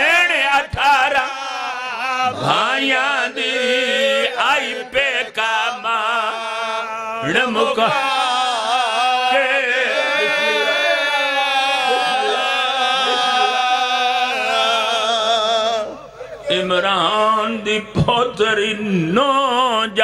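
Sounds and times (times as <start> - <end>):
man reciting into a microphone: 0.0 - 20.0
men singing a lament in chorus: 0.0 - 20.0.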